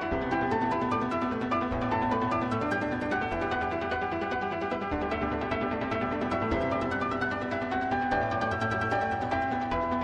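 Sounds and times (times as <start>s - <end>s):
plucked instrumental music: 0.0s - 10.0s.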